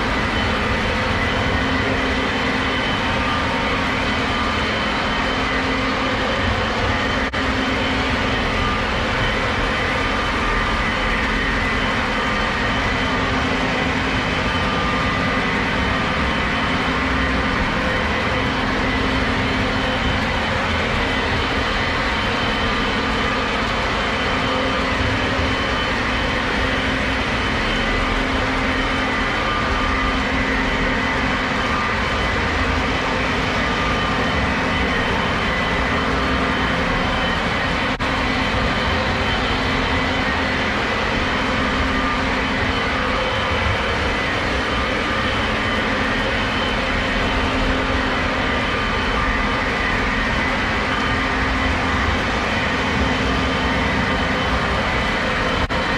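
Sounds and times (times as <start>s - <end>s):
faint whining tones: 0.0s - 55.9s.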